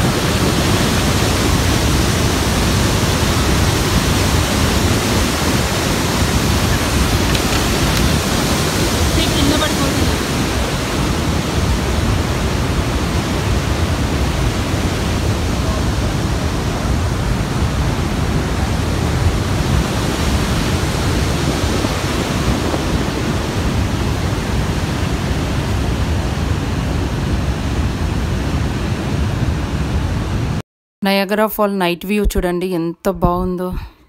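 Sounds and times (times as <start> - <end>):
waterfall rushing: 0.0 - 30.6.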